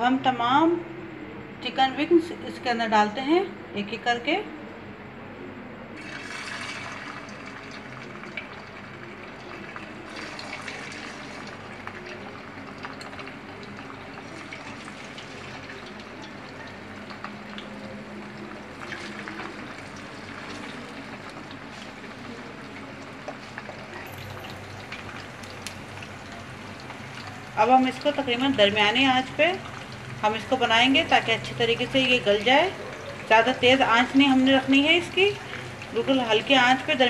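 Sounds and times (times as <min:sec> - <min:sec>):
chicken wings frying in oil: 0:06.0 - 0:37.0.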